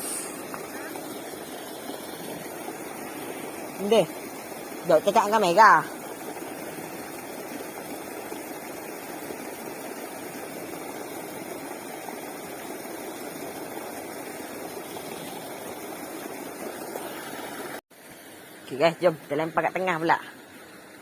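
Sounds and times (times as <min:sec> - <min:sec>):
pond aerator churning water: 0:00.0 - 0:21.0.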